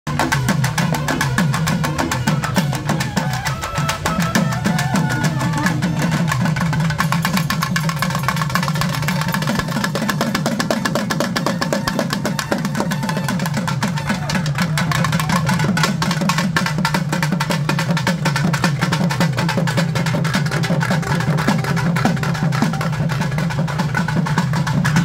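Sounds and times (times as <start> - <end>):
wind instruments playing melody: 0.1 - 16.4, 18.4 - 25.0
drums beaten fast: 0.1 - 25.0.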